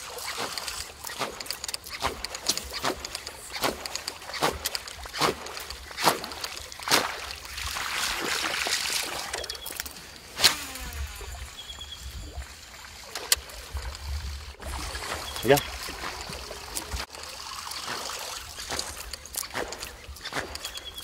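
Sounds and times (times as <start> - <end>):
sharp splashes on water: 0.0 - 21.0
water sloshing against boat: 0.0 - 21.0.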